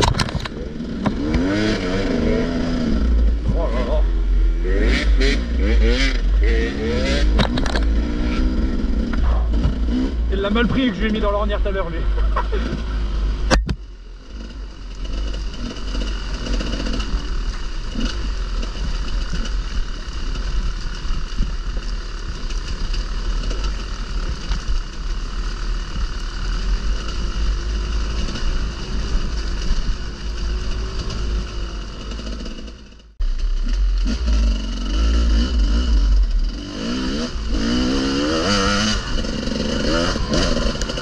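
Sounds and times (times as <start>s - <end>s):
constant low rumble: 0.0s - 41.0s
motorcycle engine running: 0.0s - 41.0s.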